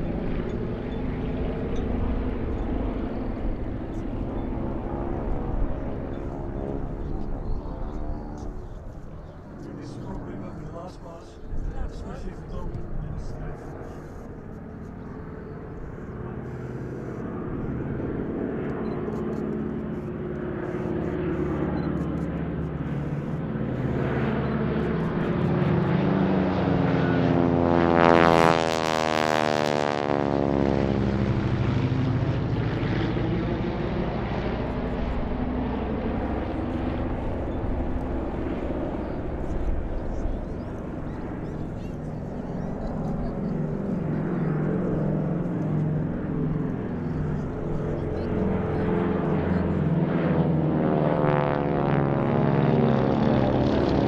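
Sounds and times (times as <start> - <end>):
aircraft engine passing overhead: 0.0 - 54.0.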